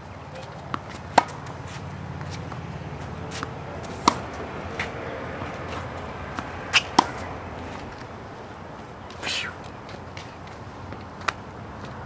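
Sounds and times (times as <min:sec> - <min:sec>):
tennis ball bouncing on hard court: 0:00.4 - 0:08.1, 0:09.9 - 0:12.0
tennis ball hit with racket: 0:00.4 - 0:08.1, 0:09.1 - 0:12.0.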